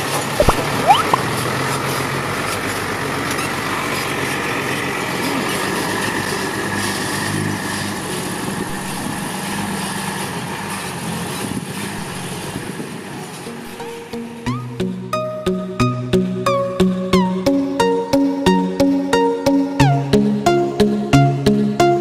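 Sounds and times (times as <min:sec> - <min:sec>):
diesel truck engine running: 0:00.0 - 0:21.9.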